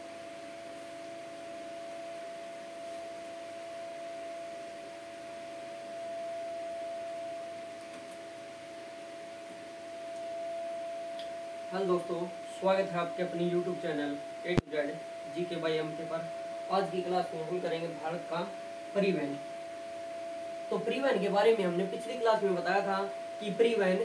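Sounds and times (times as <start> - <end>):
fainter lower tone: 0.0 - 24.0
room noise hiss: 0.0 - 24.0
steady tone: 0.0 - 24.0.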